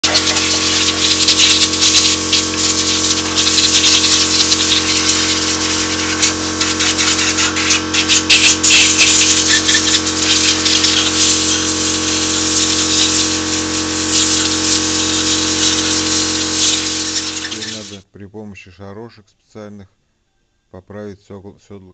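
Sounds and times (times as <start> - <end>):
motor-driven pump running: 0.0 - 18.0
water spraying: 0.0 - 18.0.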